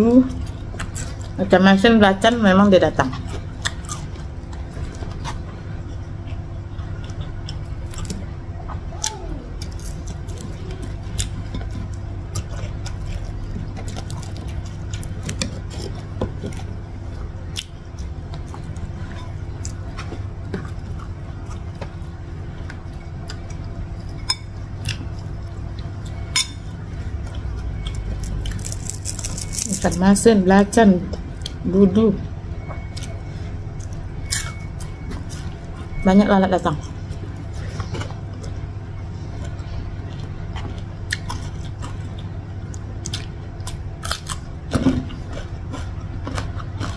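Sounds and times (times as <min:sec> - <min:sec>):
steady low hum: 0:00.0 - 0:46.9
person chewing food: 0:00.3 - 0:01.4, 0:03.0 - 0:30.0, 0:32.5 - 0:36.0, 0:36.7 - 0:46.9.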